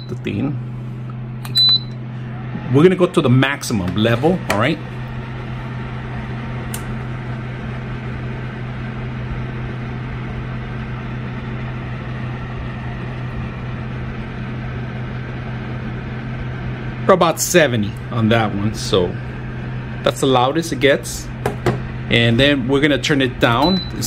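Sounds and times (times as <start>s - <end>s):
heater fan blowing air: 0.0s - 24.0s.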